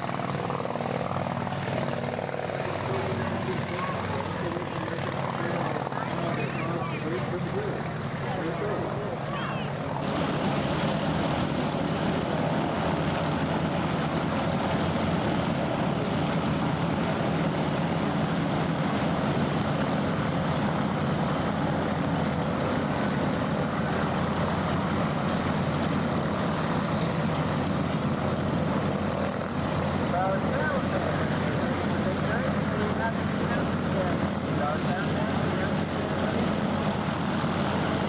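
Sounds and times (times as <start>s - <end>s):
propeller airplane engine: 0.0s - 38.0s.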